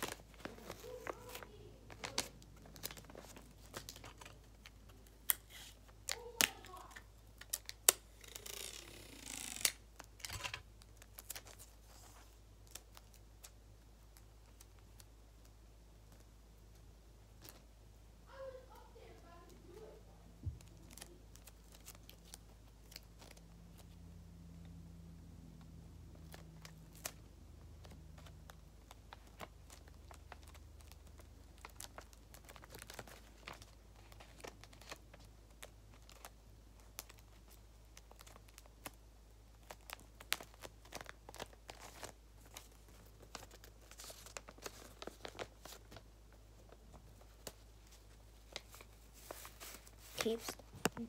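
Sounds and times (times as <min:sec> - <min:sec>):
paper crinkling and rustling: 0:00.0 - 0:08.9, 0:09.6 - 0:17.7, 0:18.3 - 0:24.0, 0:25.6 - 0:51.0.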